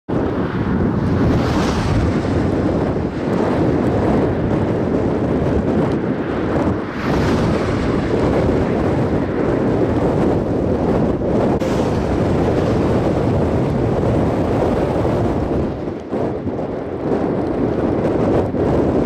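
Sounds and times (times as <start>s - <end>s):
gusty wind buffeting microphone: 0.1s - 19.0s.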